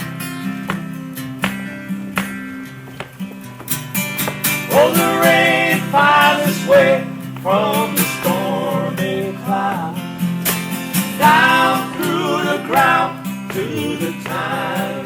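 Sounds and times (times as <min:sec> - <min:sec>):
acoustic band music: 0:00.0 - 0:15.0
strummed acoustic guitar: 0:00.0 - 0:15.0.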